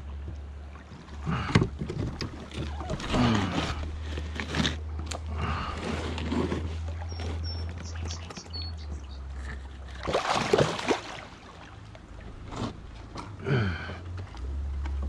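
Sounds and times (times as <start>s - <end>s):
water splashing: 0.0s - 13.1s.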